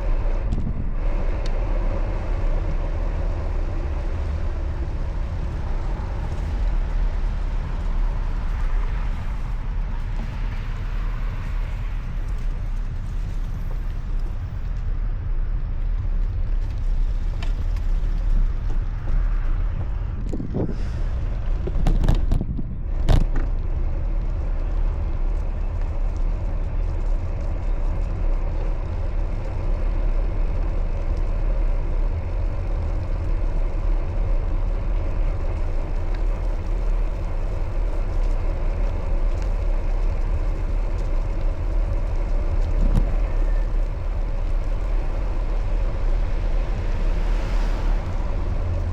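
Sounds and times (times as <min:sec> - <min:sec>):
bicycle road rumble: 0:00.0 - 0:48.9
wind noise: 0:00.0 - 0:48.9.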